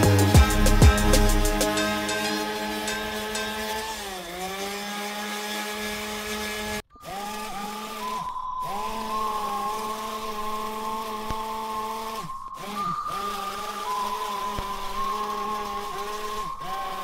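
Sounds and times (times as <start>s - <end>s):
orbital sander on metal: 0.0s - 17.0s.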